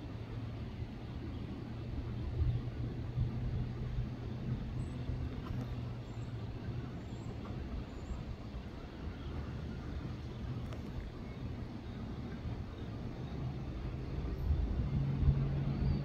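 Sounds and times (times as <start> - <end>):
train cars rumbling over track: 0.0 - 16.0.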